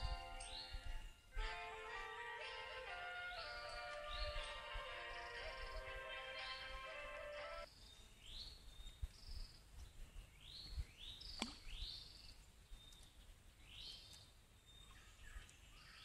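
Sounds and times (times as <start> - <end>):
birds chirping: 0.0 - 1.4, 2.0 - 16.0.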